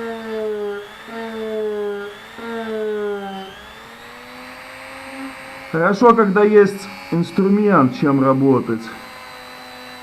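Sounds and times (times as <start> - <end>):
rotary tool whining on metal: 0.0 - 10.0.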